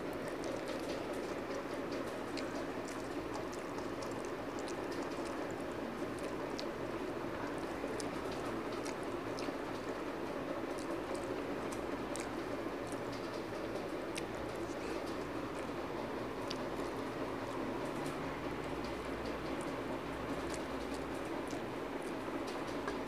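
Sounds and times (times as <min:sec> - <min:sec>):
chewing with wet mouth clicks: 0:00.0 - 0:23.0
fingers squelching rice: 0:00.0 - 0:23.0
low background rush: 0:00.0 - 0:23.0.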